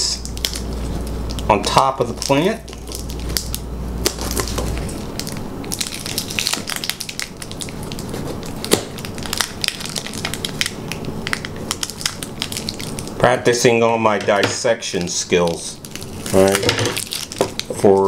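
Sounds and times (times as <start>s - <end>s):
plastic cup and tape crackling: 0.1s - 13.4s, 14.1s - 18.0s.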